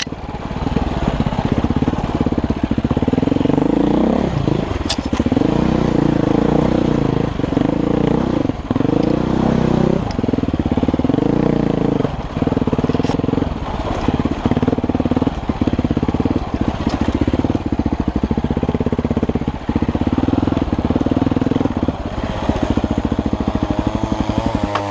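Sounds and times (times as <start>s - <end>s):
off-road vehicle engine: 0.0s - 24.9s.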